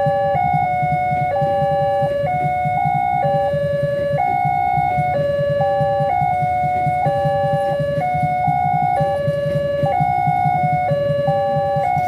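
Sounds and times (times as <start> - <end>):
passing train rumble: 0.0 - 12.0
two-tone warning sirens: 0.0 - 12.0.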